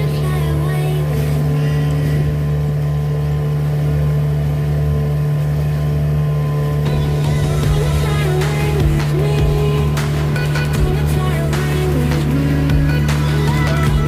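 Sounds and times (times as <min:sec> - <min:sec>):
boat engine drone: 0:00.0 - 0:14.0
rushing water: 0:00.0 - 0:14.0.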